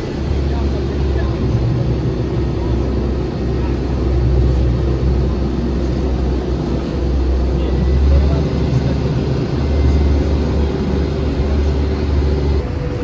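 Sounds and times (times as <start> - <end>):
motorboat engine rumbling: 0.0 - 13.0.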